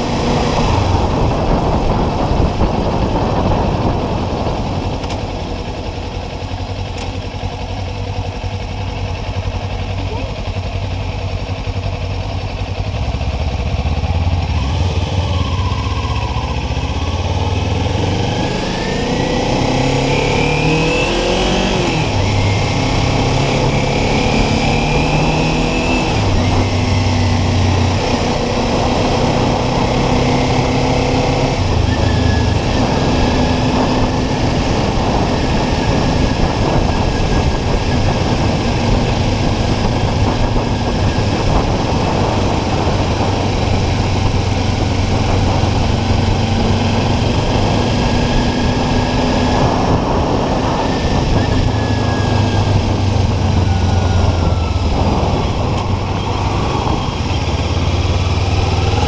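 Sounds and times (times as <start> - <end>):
wind noise on microphone: 0.0 - 8.2, 12.8 - 59.0
motorcycle engine: 0.0 - 59.0.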